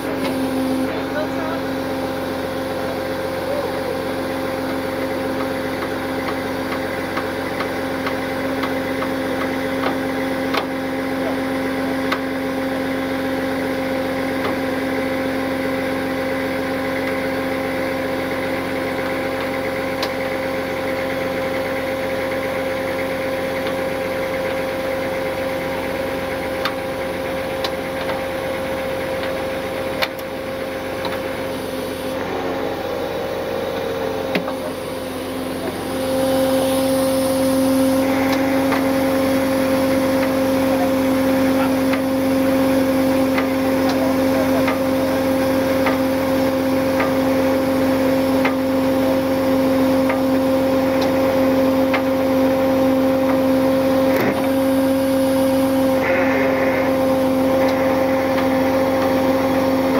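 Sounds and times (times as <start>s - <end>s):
truck engine whining: 0.0s - 59.9s.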